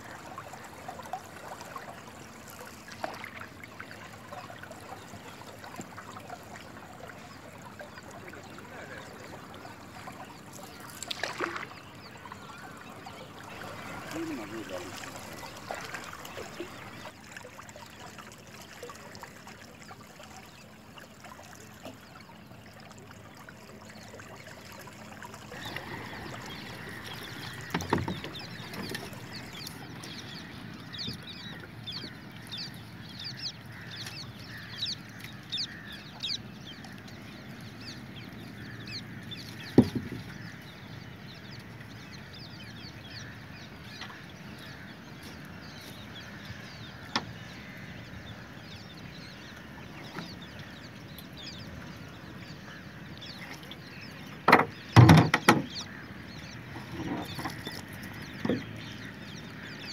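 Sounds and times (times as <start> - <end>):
open-air background: 0.0 - 59.9
birds chirping: 0.1 - 17.2, 21.8 - 59.9.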